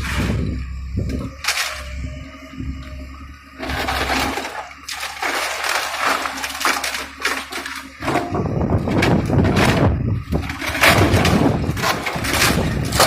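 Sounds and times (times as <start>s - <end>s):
building structure crashing: 0.0s - 13.0s
excavator engine hum: 0.0s - 13.0s.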